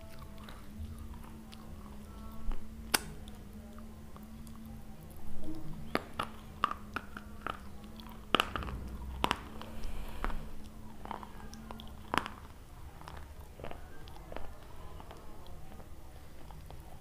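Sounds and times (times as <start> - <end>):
chewing with sharp crunches: 0.0 - 17.0.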